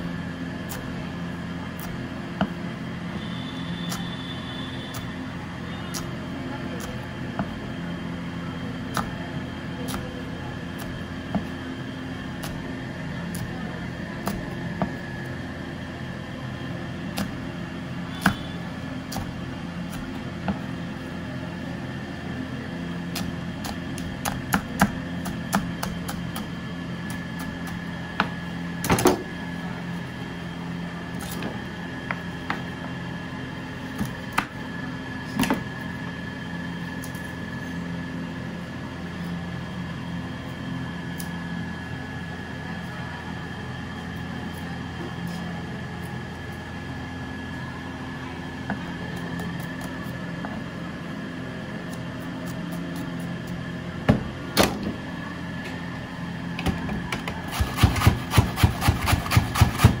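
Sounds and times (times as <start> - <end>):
steady mechanical hum: 0.0 - 60.0.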